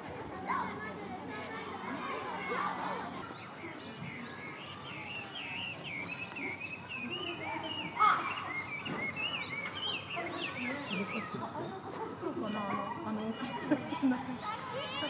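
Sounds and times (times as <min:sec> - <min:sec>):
small birds chirping: 0:00.5 - 0:15.0.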